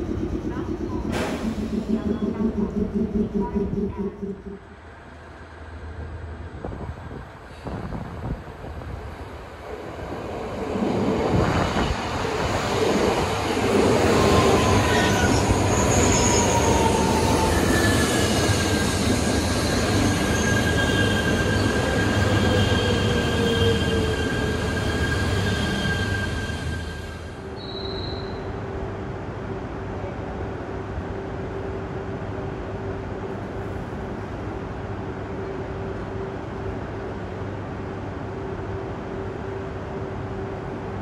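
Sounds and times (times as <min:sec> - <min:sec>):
high-speed train running: 0:00.0 - 0:41.0.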